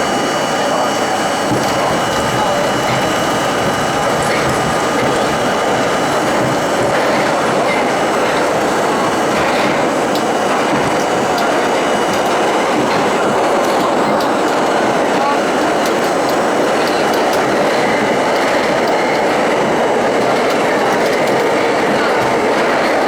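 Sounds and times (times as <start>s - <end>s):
subway train rumbling in tunnel: 0.0s - 23.0s
wheels clickety-clack: 0.0s - 23.0s.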